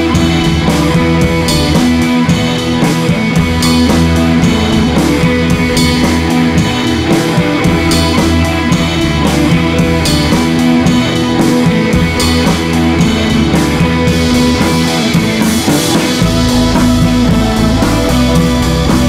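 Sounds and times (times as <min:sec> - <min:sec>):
background music with guitar and drums: 0:00.0 - 0:19.0.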